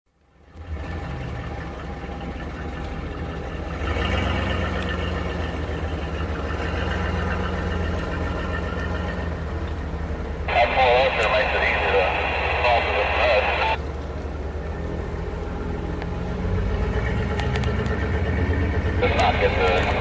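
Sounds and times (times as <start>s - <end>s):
vehicle engine running: 0.1s - 20.0s.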